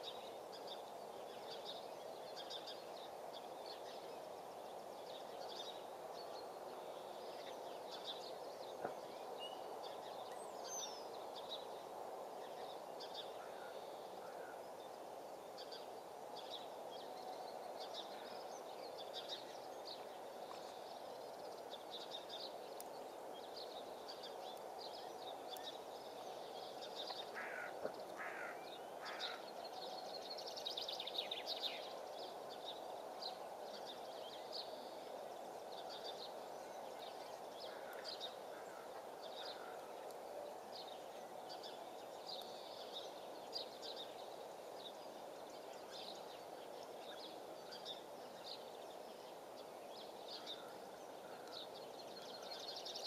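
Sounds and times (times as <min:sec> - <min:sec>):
small birds chirping and singing: 0:00.0 - 0:53.0
steady background noise: 0:00.0 - 0:53.0.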